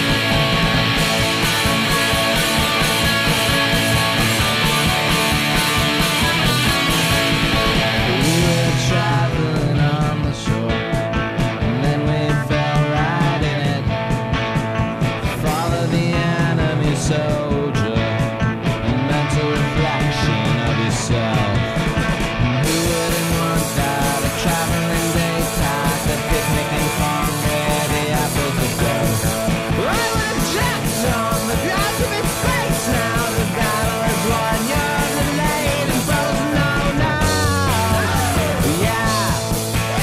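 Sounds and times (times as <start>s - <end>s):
rock music with steady beat: 0.0s - 40.0s.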